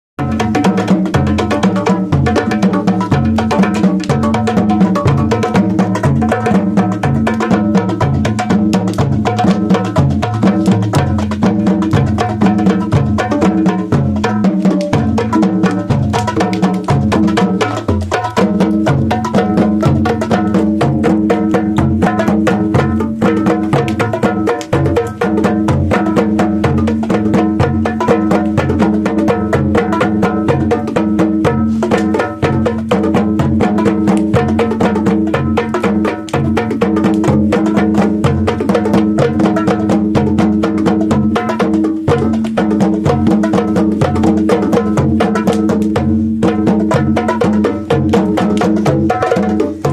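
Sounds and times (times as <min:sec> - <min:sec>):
hand drums playing fast: 0:00.2 - 0:49.9.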